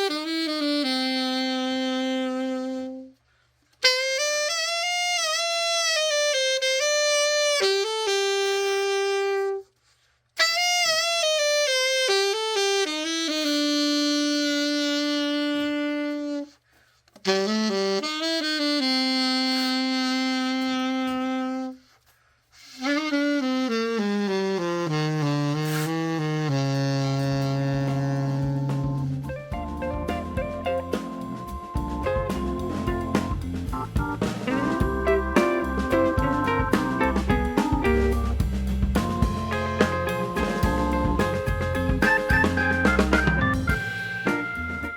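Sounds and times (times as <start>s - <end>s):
solo saxophone playing: 0.0s - 3.2s, 3.8s - 9.8s, 10.4s - 16.6s, 17.2s - 22.0s, 22.6s - 44.9s.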